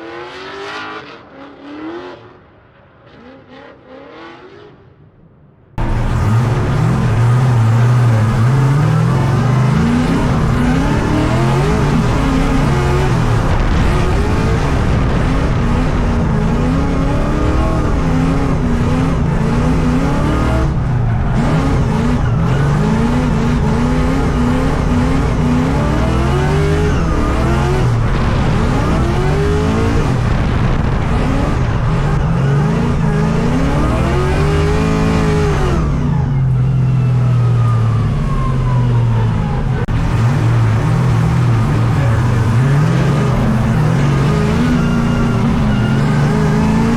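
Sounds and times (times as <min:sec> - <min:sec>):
car engine revving: 0:05.8 - 0:46.9
tire noise: 0:05.8 - 0:46.9.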